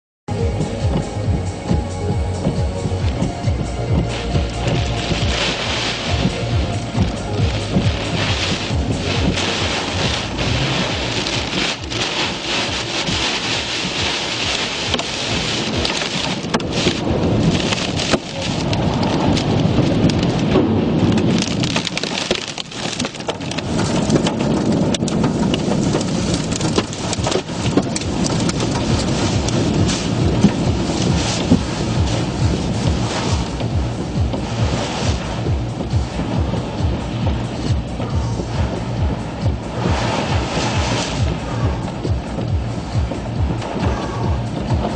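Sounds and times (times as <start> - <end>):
heavy rain pelting a car: 0.3 - 44.9
wind: 0.3 - 44.9.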